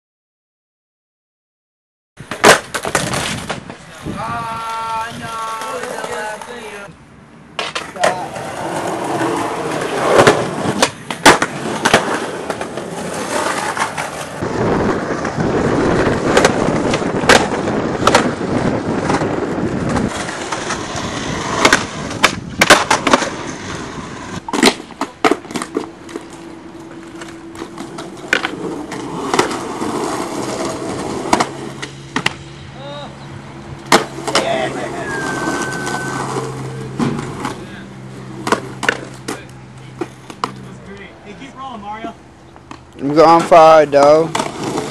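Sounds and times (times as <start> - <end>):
skateboard wheels rolling on concrete: 2.2 - 44.9
skateboard popping and landing: 2.3 - 3.8, 5.4 - 6.7, 7.6 - 32.4, 33.9 - 37.7, 38.3 - 40.6, 42.6 - 44.9.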